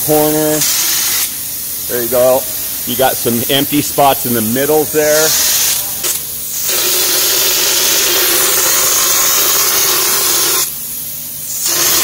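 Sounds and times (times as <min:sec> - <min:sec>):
spray gun hissing: 0:00.4 - 0:12.0.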